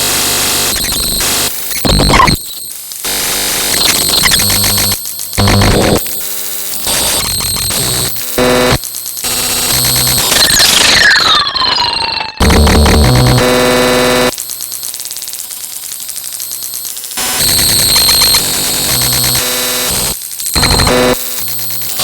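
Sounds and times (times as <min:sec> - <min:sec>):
electronic static bursts: 0:00.0 - 0:22.0
buzzing tone: 0:00.6 - 0:11.2, 0:12.4 - 0:22.0.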